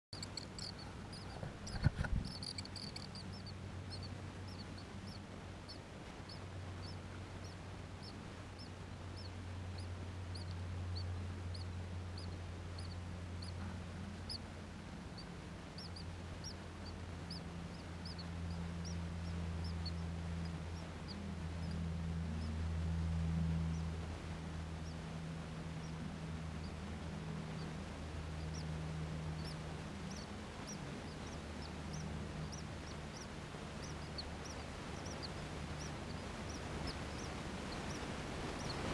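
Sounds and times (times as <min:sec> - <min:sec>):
low hum: 0:00.1 - 0:38.9
nestlings begging peeps: 0:00.2 - 0:38.9.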